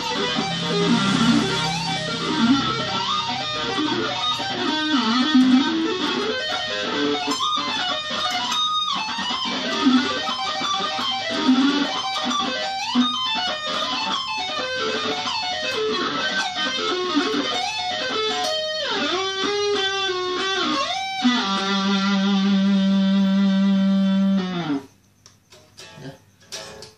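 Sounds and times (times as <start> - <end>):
electric guitar lead runs: 0.0 - 24.9.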